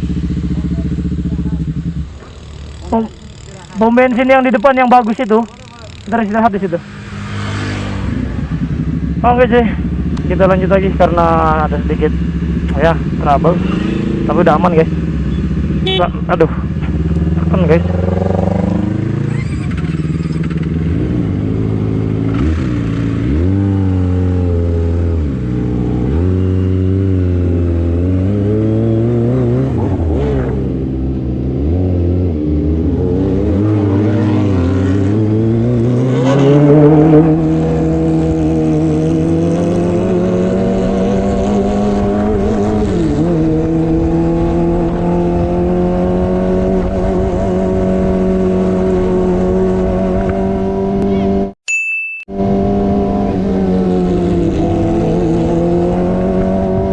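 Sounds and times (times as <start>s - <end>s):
motorcycle engine accelerating: 0.0s - 51.6s, 52.3s - 56.9s.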